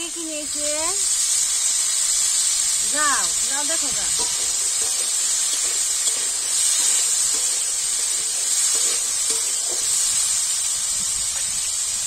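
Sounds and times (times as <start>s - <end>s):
potatoes sizzling in hot oil: 0.0s - 12.0s.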